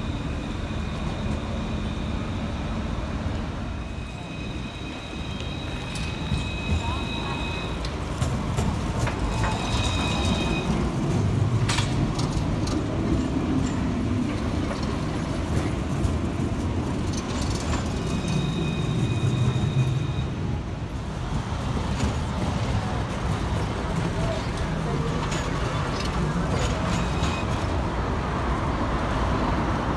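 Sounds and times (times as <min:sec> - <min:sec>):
tram rumbling past: 0:00.0 - 0:29.9.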